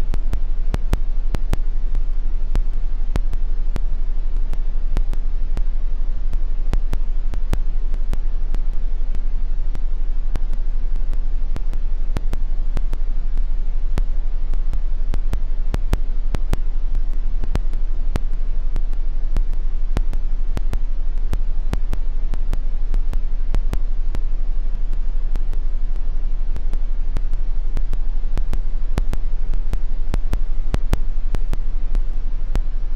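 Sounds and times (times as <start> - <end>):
steady deep hum: 0.0 - 32.9.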